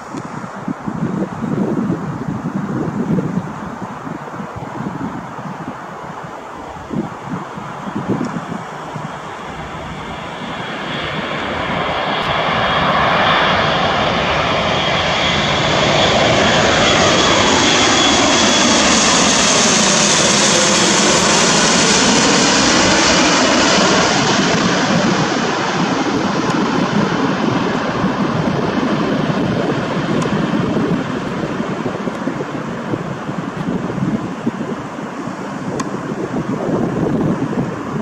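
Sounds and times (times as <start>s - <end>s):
turboprop aircraft flying overhead: 6.6s - 38.0s.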